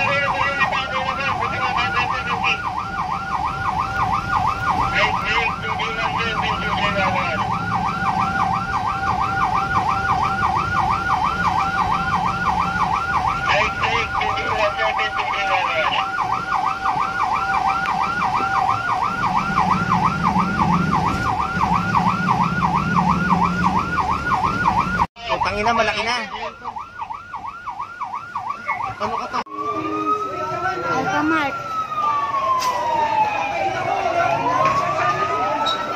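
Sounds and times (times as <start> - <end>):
second higher siren: 0.0 - 35.9
siren on a fast yelp: 0.0 - 35.9.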